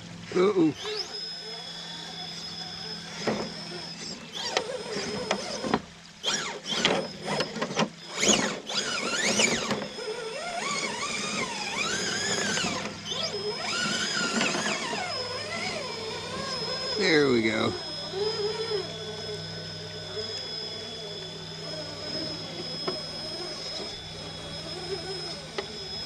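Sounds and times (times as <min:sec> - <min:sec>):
rc car motor whining: 0:00.0 - 0:26.0.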